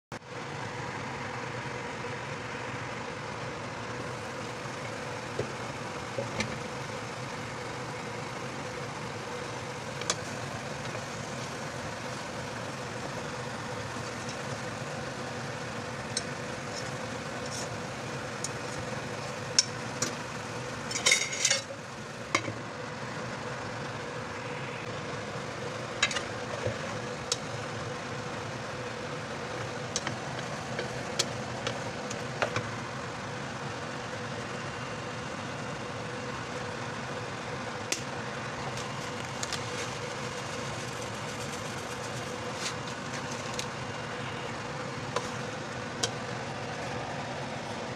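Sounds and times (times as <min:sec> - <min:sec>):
constant hum: 0:00.1 - 0:47.9.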